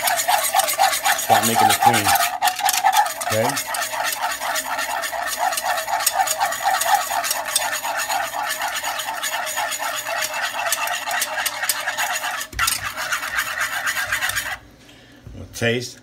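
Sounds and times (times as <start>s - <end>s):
whisk clicking against saucepan: 0.0s - 14.6s.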